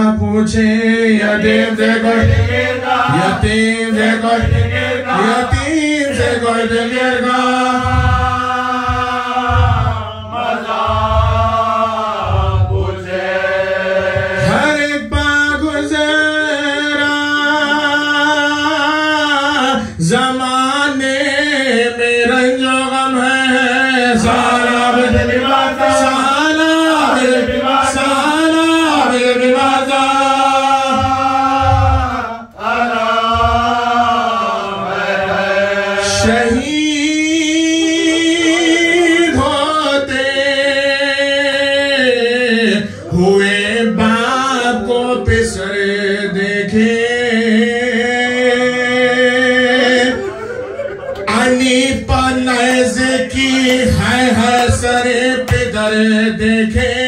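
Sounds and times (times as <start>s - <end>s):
man chanting into a microphone: 0.0s - 50.3s, 51.2s - 57.0s.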